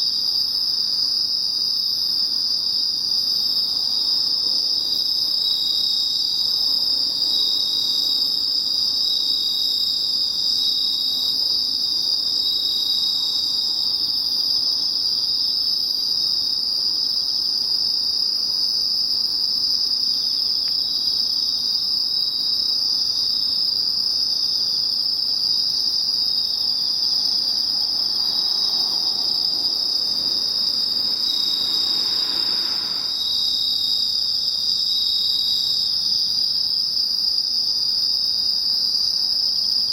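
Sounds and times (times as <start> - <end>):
crickets trilling: 0.0 - 39.9
pulsing insect chirp: 0.0 - 39.9.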